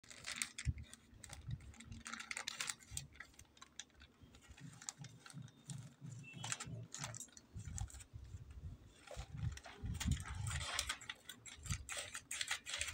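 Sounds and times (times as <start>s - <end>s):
plastic mailer bag crinkling: 0.0s - 12.9s.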